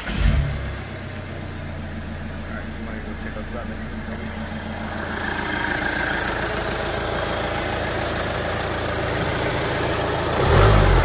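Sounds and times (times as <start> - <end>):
diesel engine idling: 0.0 - 11.0
loud low engine rumble: 0.0 - 11.0.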